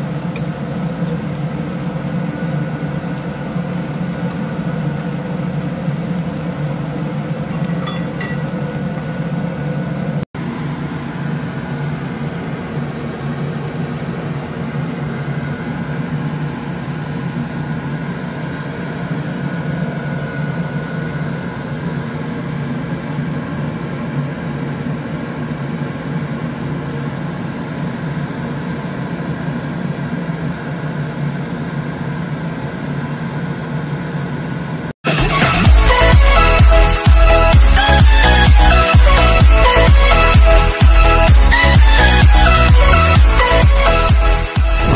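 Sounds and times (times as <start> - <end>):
fan humming: 0.0 - 44.9.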